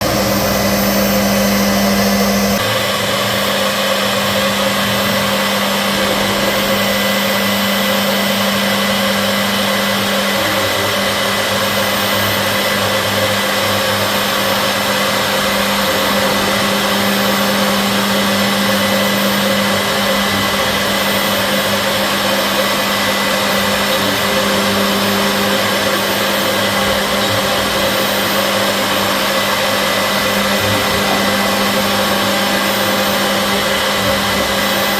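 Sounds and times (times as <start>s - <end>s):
machine motor whine: 0.0s - 34.9s.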